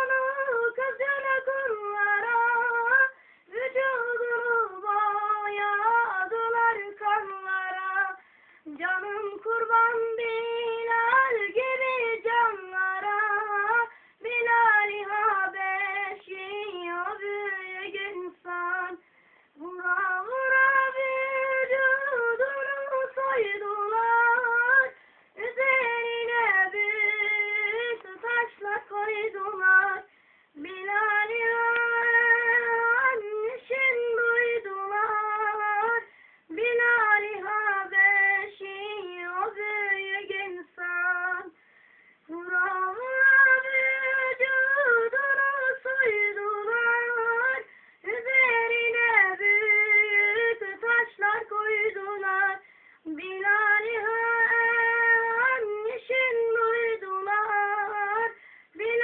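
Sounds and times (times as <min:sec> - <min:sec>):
child singing: 0:00.0 - 0:19.0, 0:19.7 - 0:41.5, 0:42.3 - 0:59.0.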